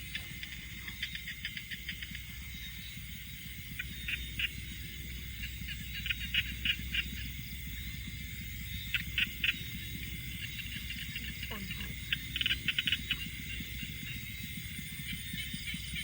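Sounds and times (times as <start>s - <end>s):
frogs calling: 0.0s - 16.0s
steady low rumble: 0.0s - 16.0s.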